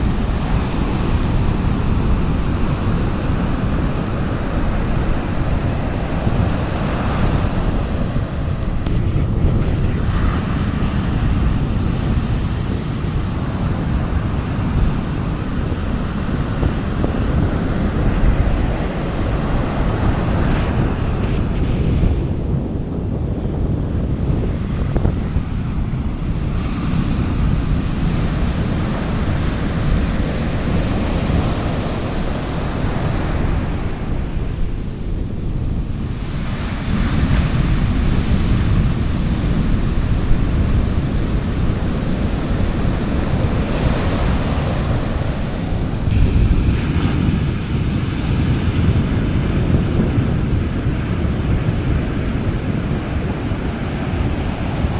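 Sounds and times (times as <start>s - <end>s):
sea waves washing onto beach: 0.0s - 54.9s
wind buffeting microphone: 0.0s - 54.9s.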